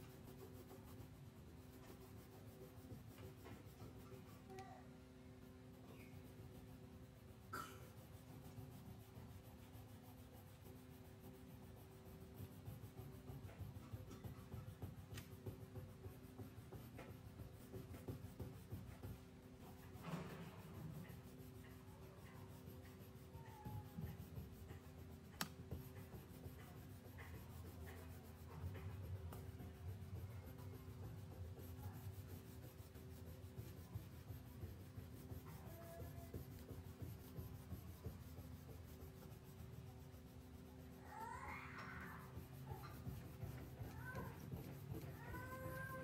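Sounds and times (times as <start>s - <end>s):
crayon rubbing on paper: 0.0s - 4.8s, 5.8s - 46.0s.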